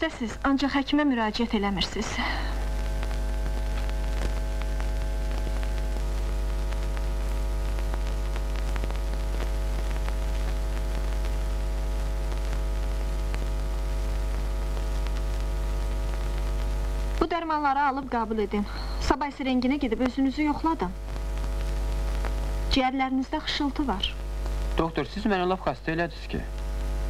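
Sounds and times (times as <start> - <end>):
electrical mains hum: 0.0 - 27.0
faint crackle and clicks: 0.0 - 27.0.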